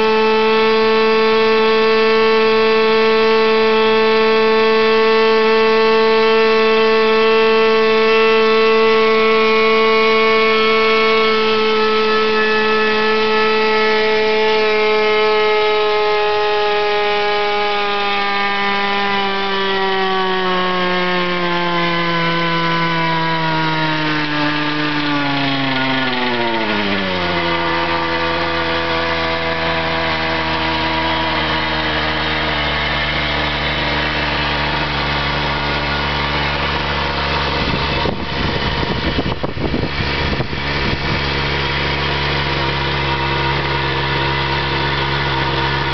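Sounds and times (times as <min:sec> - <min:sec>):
small model engine running: 0:00.0 - 0:45.9.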